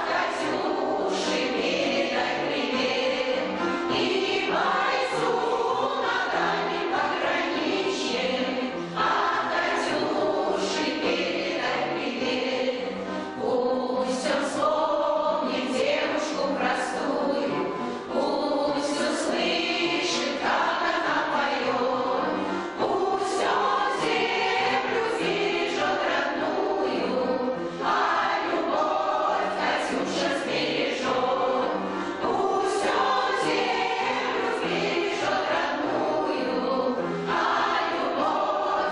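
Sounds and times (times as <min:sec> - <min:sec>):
instrumental accompaniment: 0:00.0 - 0:38.9
women's choir singing: 0:00.0 - 0:38.9.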